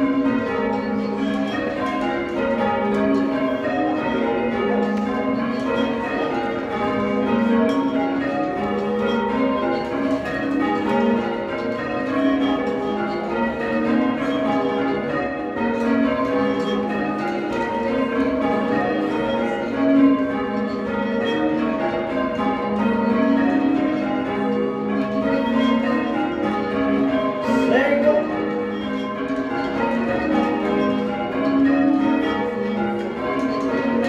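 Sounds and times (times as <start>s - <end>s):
church bells ringing: 0.0s - 34.0s.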